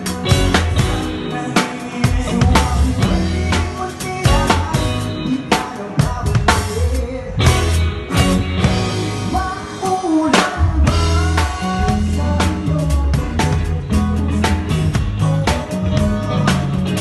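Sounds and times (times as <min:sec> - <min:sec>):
live band music: 0:00.0 - 0:17.0
low bass notes: 0:00.0 - 0:17.0.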